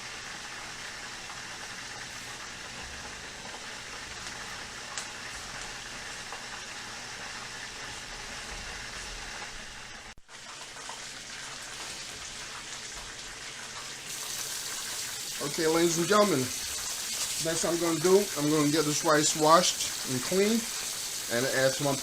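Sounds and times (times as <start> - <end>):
food hissing in a pot: 0.0 - 22.0.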